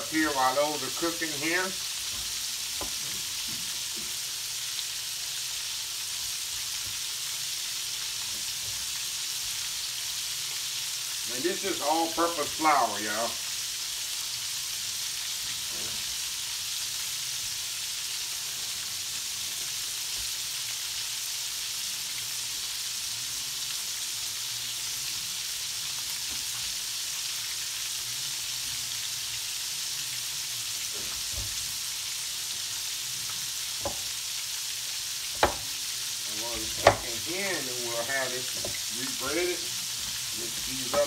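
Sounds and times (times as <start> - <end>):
chicken frying in hot oil: 0.0 - 41.0.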